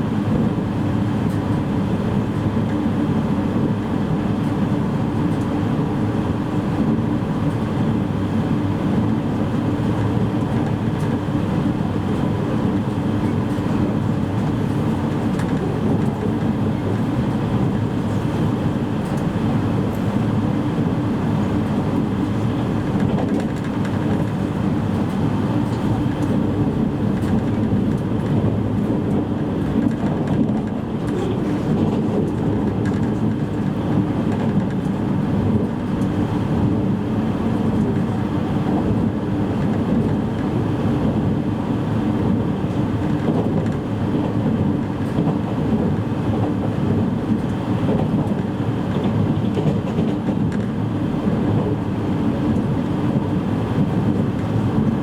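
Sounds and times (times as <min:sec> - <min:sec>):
electric train rumbling: 0:00.0 - 0:55.0.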